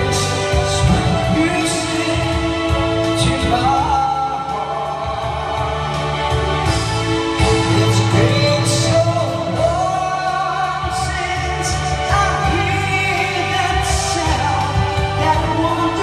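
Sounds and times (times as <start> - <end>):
man singing into microphone: 0.0 - 6.0, 7.4 - 16.0
backing music track: 0.0 - 16.0.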